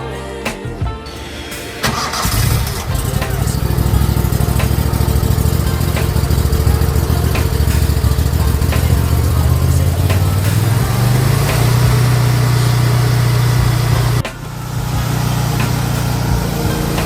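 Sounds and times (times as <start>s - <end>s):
pressure washer engine running: 1.9s - 17.0s.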